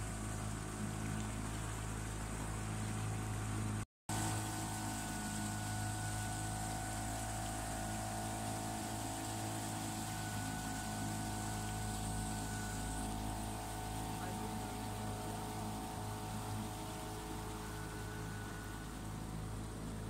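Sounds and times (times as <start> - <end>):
boat motor humming: 0.0 - 20.0
higher steady whine: 0.0 - 20.0.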